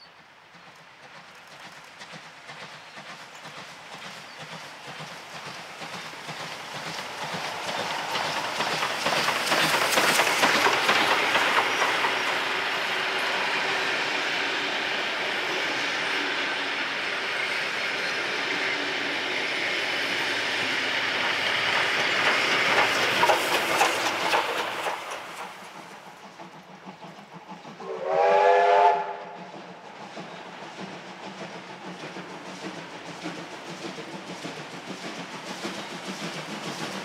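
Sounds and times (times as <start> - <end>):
steam locomotive chuffing: 0.0 - 37.0
train wheels clicking over rail joints: 0.4 - 37.0.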